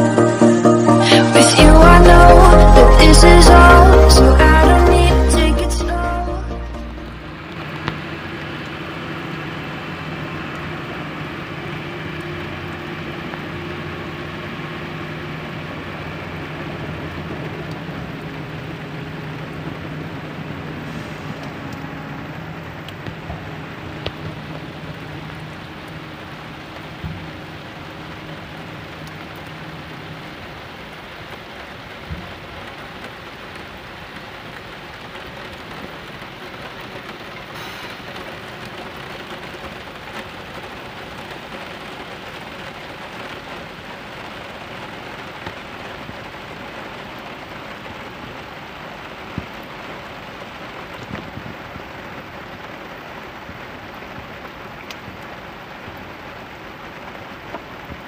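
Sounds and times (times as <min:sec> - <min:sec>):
steady rain falling: 0:00.0 - 0:58.0
low engine hum: 0:01.2 - 0:58.0.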